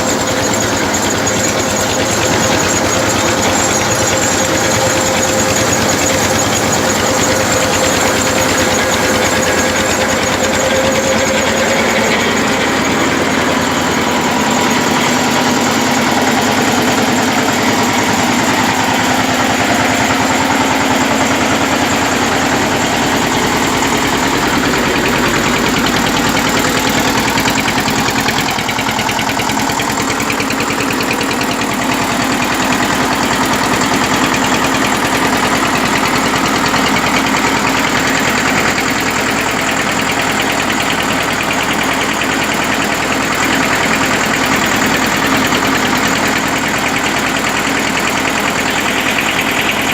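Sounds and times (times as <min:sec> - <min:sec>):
flour mill humming: 0:00.0 - 0:49.9
tractor diesel engine running: 0:00.0 - 0:49.9.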